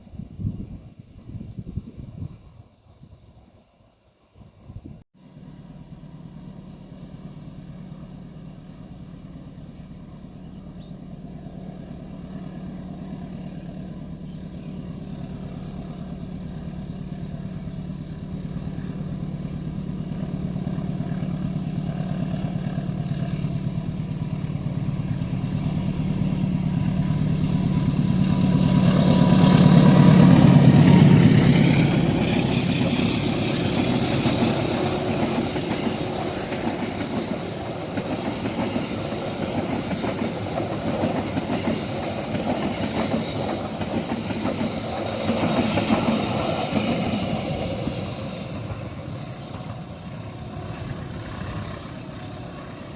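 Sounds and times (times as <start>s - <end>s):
locomotive engine drone: 5.2s - 52.9s
wheels rushing on rails: 5.2s - 52.9s.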